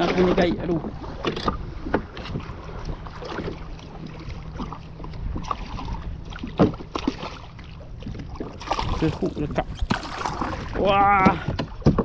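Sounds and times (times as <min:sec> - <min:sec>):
water slapping kayak hull: 0:00.0 - 0:12.0.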